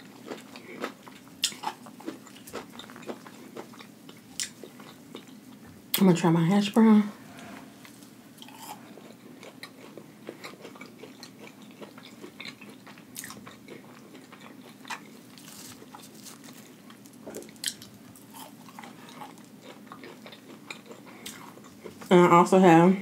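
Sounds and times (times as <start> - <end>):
crunchy food chewing: 0.0 - 6.0, 7.3 - 22.1.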